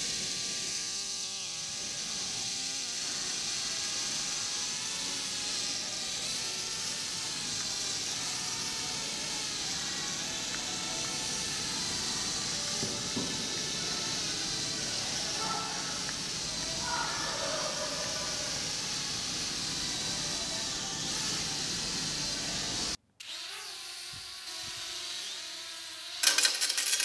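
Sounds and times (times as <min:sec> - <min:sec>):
quadcopter propellers buzzing: 0:00.0 - 0:27.0.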